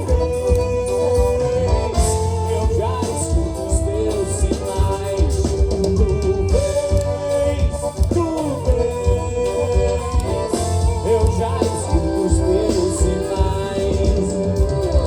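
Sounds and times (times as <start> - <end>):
gliding melody line: 0.0 - 15.0
live band music: 0.0 - 15.0
steady drum beat: 0.0 - 15.0.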